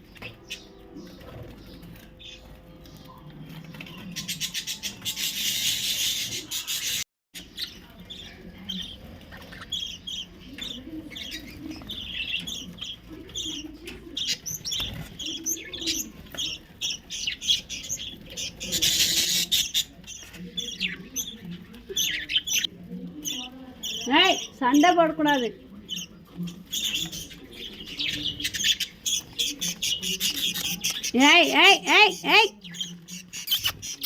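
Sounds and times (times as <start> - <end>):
birds chirping and squawking: 0.0 - 34.0
shrill bird chatter: 3.9 - 25.0, 25.9 - 34.0.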